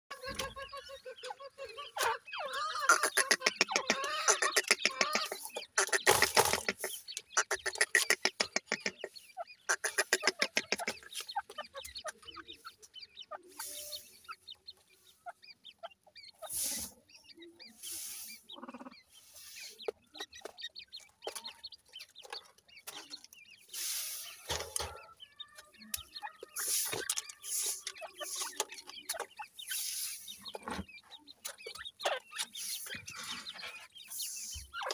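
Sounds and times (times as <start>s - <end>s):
bird chirps and peeps: 0.1s - 34.9s
bird clucking calls: 0.1s - 34.9s.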